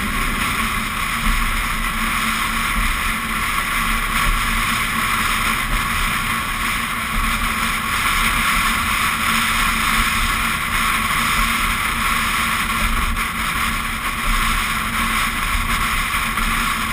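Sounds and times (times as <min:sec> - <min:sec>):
road noise: 0:00.0 - 0:16.9.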